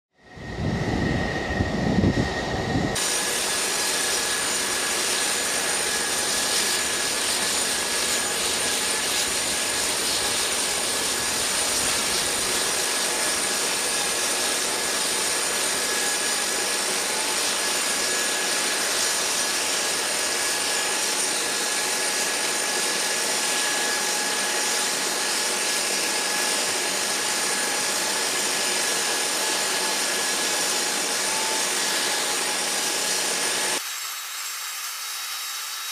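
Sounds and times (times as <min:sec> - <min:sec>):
jet turbine whine and hiss: 0:00.2 - 0:35.9.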